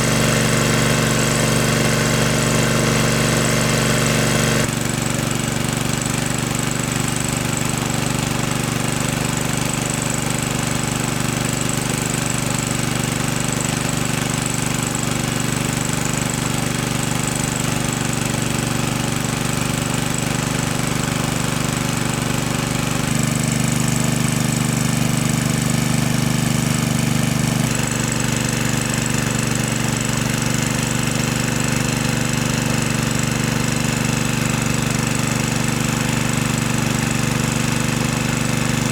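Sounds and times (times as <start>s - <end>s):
small engine chugging: 0.0s - 38.9s.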